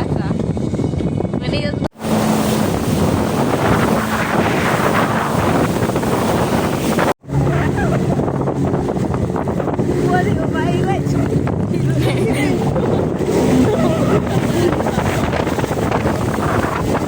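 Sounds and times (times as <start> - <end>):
jet ski engine running: 0.0 - 17.0
wind buffeting microphone: 0.0 - 17.0
rushing water: 1.9 - 17.0.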